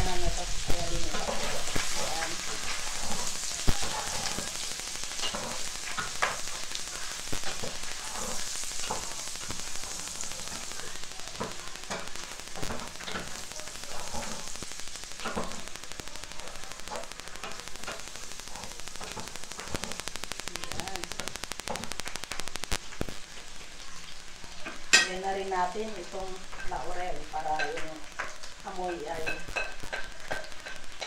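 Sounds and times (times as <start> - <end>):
meat sizzling in a pot: 0.0 - 31.0.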